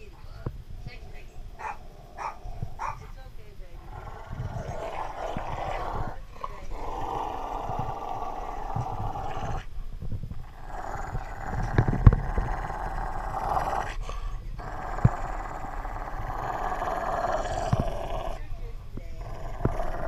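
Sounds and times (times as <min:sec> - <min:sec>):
dog growling: 0:00.0 - 0:09.7, 0:10.4 - 0:20.0.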